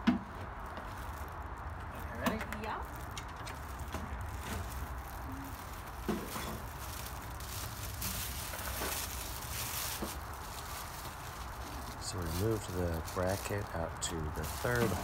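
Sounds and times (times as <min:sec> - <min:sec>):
plastic wrapping rustling: 0:00.0 - 0:15.0.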